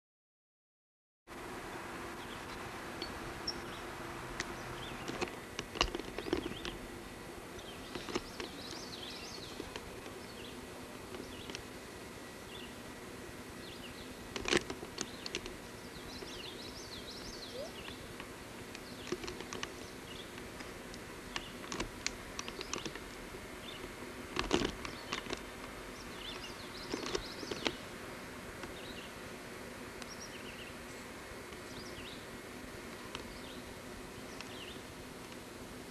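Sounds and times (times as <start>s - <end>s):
steady hum and hiss: 1.3s - 35.9s
birds chirping: 2.1s - 14.3s, 14.9s - 24.0s, 24.8s - 28.0s, 28.7s - 29.3s, 30.0s - 35.2s.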